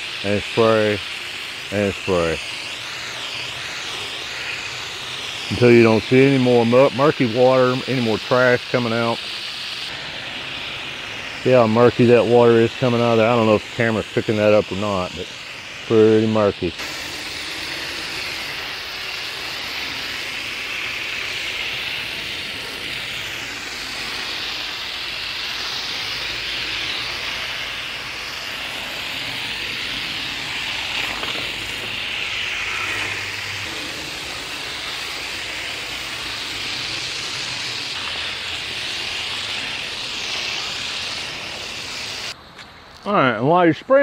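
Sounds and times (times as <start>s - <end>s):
garden hose spray hissing: 0.0s - 44.0s.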